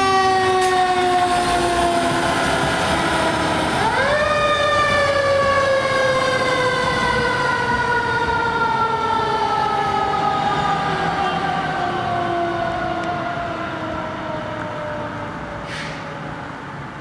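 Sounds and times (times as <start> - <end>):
emergency siren wailing: 0.0 - 17.0
vehicle rumbling: 0.2 - 17.0.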